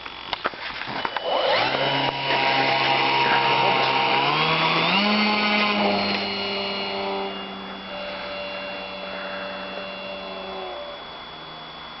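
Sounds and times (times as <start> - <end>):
model aircraft motor: 0.0 - 12.0.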